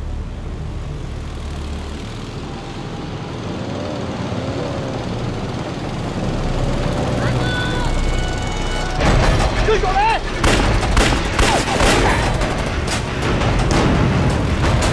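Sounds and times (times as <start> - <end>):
motorcycle engines droning: 0.0 - 14.9.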